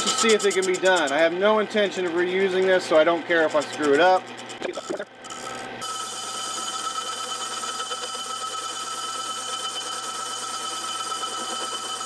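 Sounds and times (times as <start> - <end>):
lathe bit scraping metal: 0.0 - 12.0
machine hum: 0.0 - 12.0
metal rotor ringing: 0.0 - 12.0.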